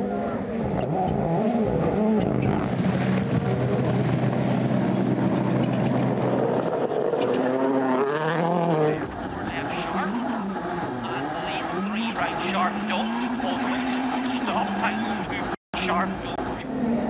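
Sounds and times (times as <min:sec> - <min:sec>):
rally car engines revving: 0:00.0 - 0:17.0.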